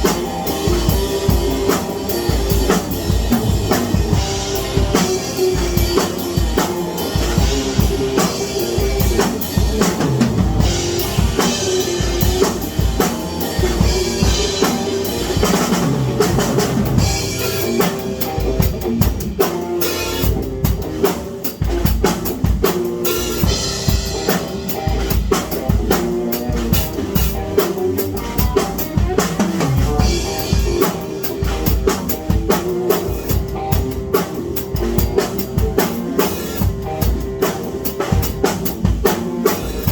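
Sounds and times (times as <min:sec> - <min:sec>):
drum kit playing fast: 0:00.0 - 0:39.9.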